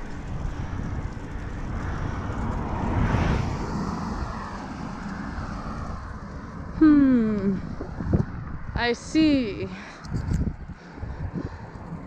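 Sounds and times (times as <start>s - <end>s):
steady low rumble: 0.0s - 12.0s
vehicle passing: 0.0s - 12.0s.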